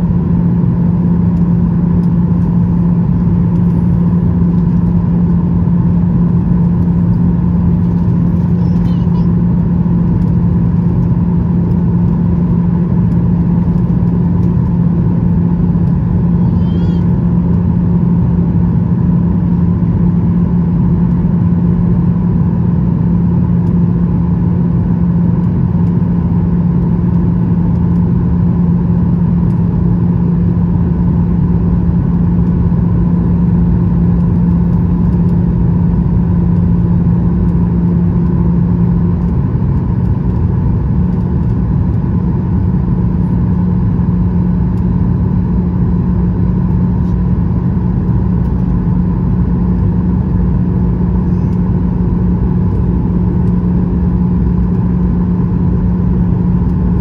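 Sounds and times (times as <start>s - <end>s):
constant low hum: 0.0s - 57.0s
jet engine drone in cabin: 0.0s - 57.0s.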